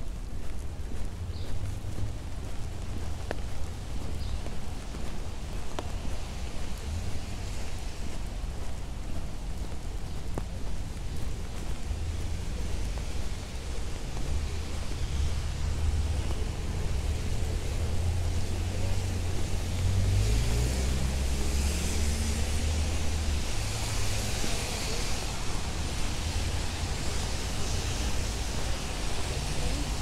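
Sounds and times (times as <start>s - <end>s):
tyre hiss on wet pavement: 0.5s - 30.0s.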